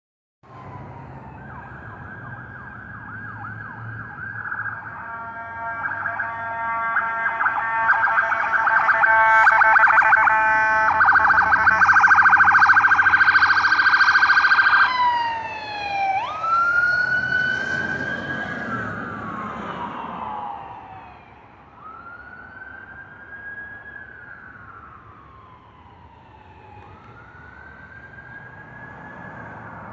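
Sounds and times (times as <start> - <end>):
police siren: 0.4 - 29.9.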